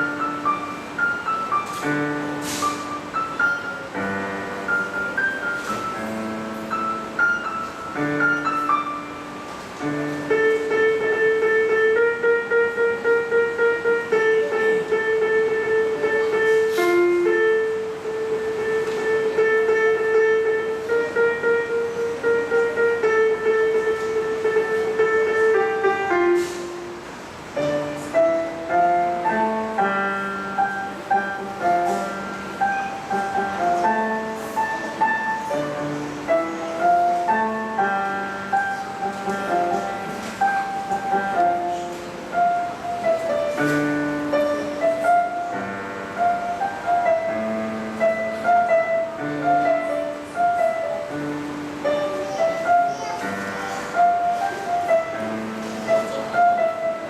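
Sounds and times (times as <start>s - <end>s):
solo piano melody: 0.0s - 57.0s.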